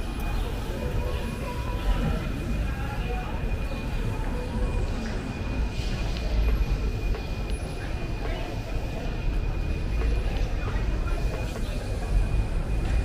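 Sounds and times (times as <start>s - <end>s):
elevated train rumbling: 0.0s - 13.0s.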